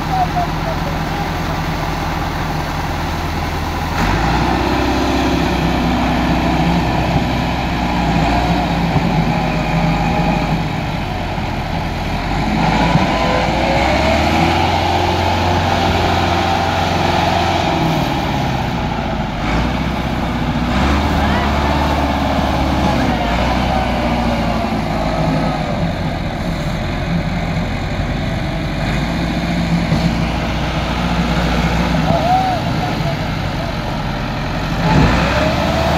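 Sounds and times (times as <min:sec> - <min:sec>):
tractor diesel engine under load: 0:00.0 - 0:35.9.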